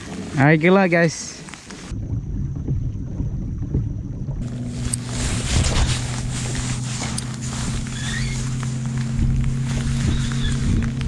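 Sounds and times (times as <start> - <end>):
water and wind noise: 0.0 - 11.0
boat motor humming: 1.6 - 11.0.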